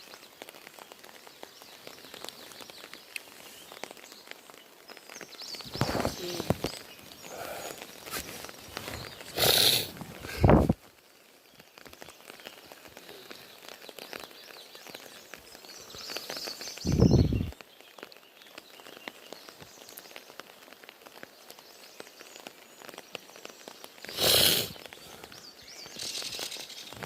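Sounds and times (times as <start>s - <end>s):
light rain pattering: 0.0s - 27.0s.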